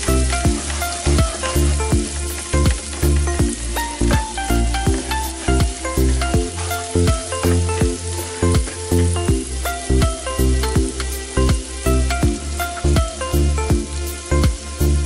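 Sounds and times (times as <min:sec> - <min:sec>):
background music with beat: 0:00.0 - 0:15.0
food sizzling in butter: 0:00.0 - 0:15.0.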